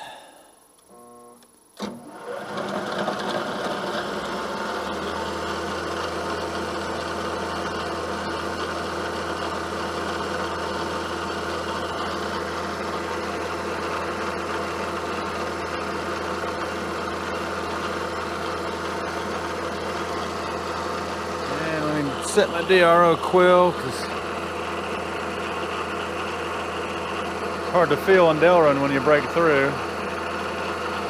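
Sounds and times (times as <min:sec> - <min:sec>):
milling machine spindle running: 0:01.8 - 0:31.0.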